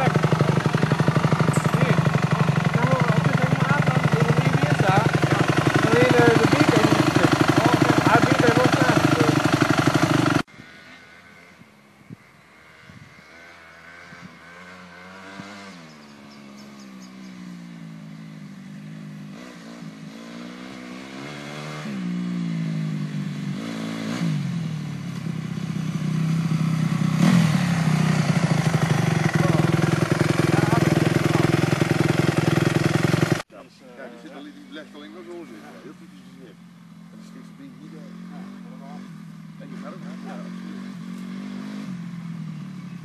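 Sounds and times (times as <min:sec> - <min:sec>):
dirt bike engine revving: 0:00.0 - 0:11.6, 0:12.5 - 0:33.5, 0:34.2 - 0:43.0.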